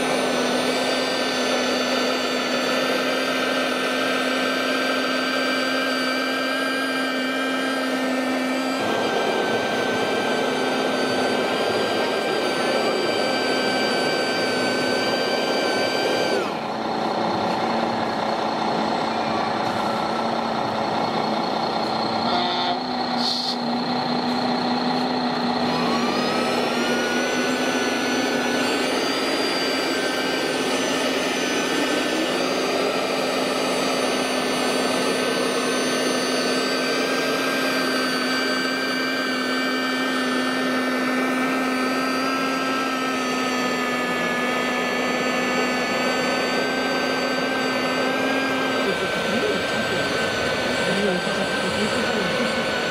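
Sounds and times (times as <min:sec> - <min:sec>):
toy sweeper fan whine: 0:00.0 - 0:17.0, 0:22.2 - 0:52.9.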